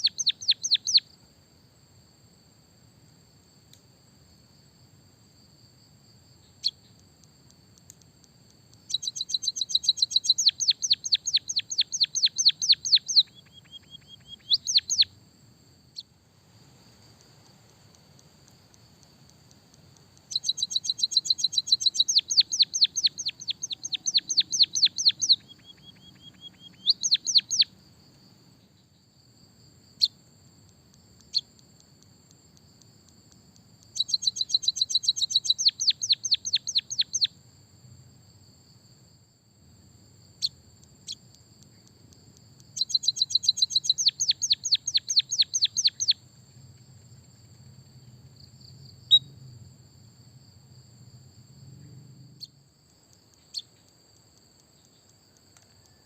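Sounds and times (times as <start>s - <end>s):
songbird singing: 0.0s - 1.3s, 5.3s - 37.4s, 40.0s - 56.0s.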